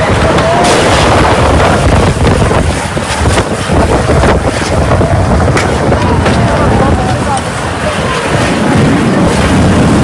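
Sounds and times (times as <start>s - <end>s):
storm wind gusting on microphone: 0.0s - 10.0s
wind-driven rain hiss: 0.0s - 10.0s.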